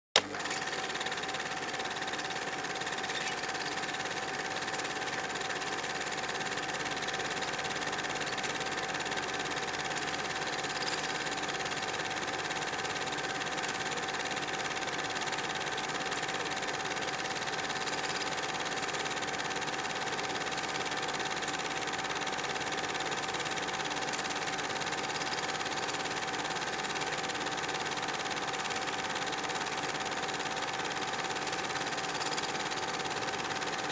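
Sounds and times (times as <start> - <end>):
film projector whirring: 0.2 - 33.9.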